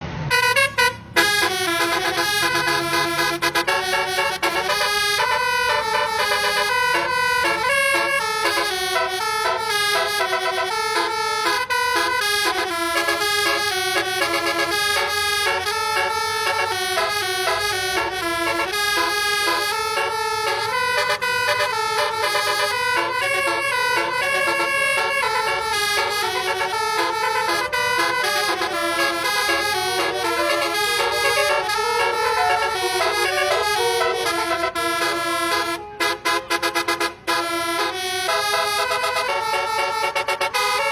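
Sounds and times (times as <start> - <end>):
multi-tone bus horn melody: 0.3 - 40.9.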